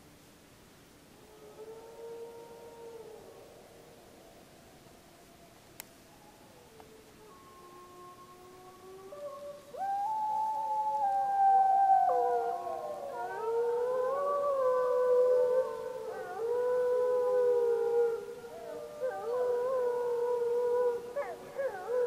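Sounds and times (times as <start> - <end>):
wolves howling in chorus: 1.2 - 22.0.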